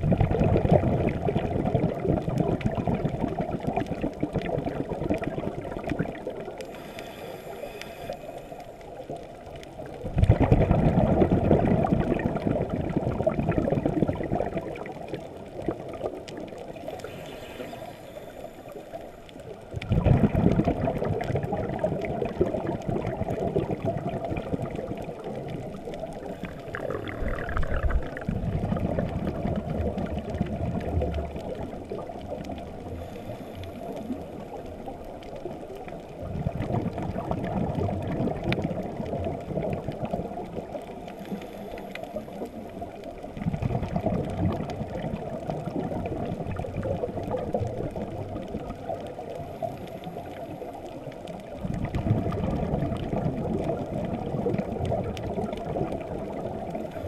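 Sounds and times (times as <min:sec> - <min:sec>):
underwater rushing and gurgling: 0:00.0 - 0:57.0.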